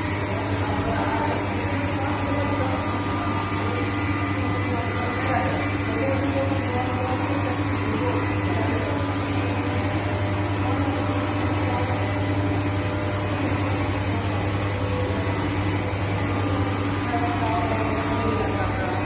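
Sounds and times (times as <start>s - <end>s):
kettle machine hum: 0.0s - 19.0s.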